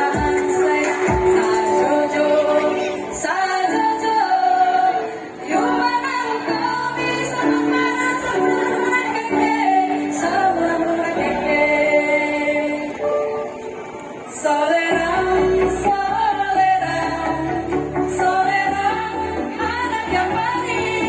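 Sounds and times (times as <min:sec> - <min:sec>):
women's choir singing: 0:00.0 - 0:13.6, 0:14.2 - 0:21.0.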